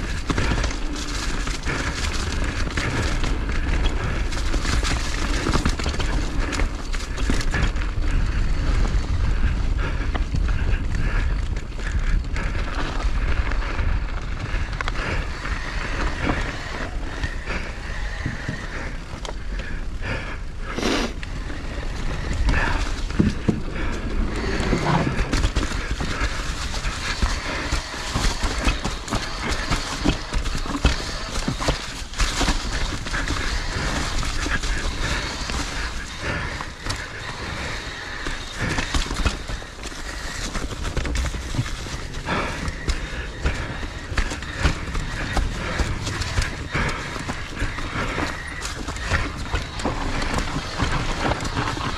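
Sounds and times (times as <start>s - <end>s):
skis scraping over snow: 0.0s - 11.3s, 12.4s - 51.9s
wind buffeting microphone: 0.0s - 51.9s.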